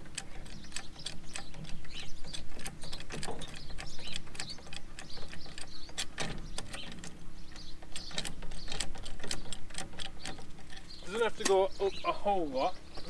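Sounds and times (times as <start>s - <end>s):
hydraulic jack clicking: 0.0s - 11.6s.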